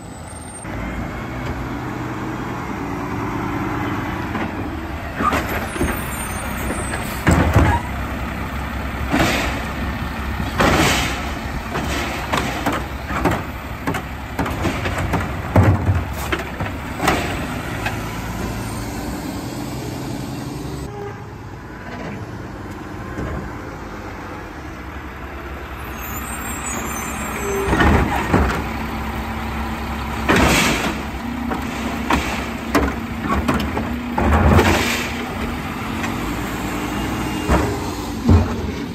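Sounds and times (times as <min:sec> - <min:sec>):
diesel engine running: 0:00.7 - 0:20.9, 0:27.3 - 0:38.9.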